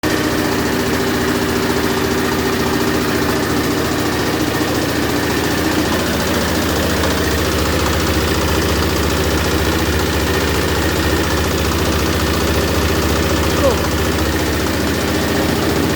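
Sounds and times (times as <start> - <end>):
diesel engine drone: 0.0 - 15.9.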